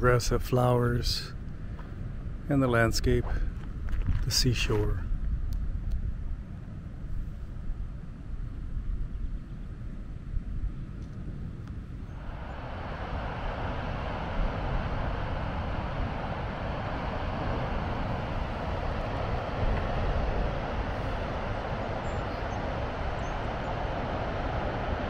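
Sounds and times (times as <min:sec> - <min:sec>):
wind blowing on microphone: 0:00.0 - 0:25.0.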